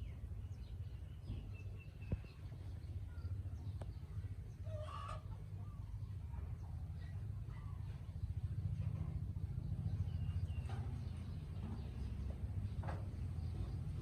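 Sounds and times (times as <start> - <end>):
steady low hum: 0.0 - 14.0
faint bird calls: 1.2 - 14.0.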